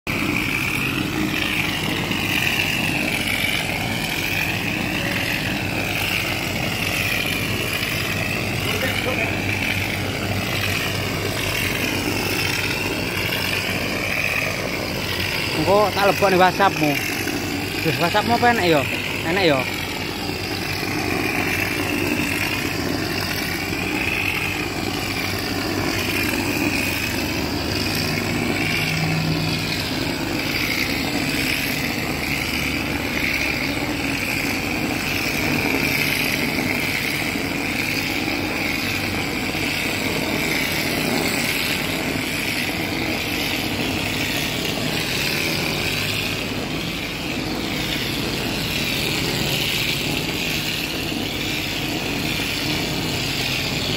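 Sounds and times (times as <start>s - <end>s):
low mechanical drone: 0.0s - 53.9s
plaster spray gun hissing: 0.1s - 53.9s.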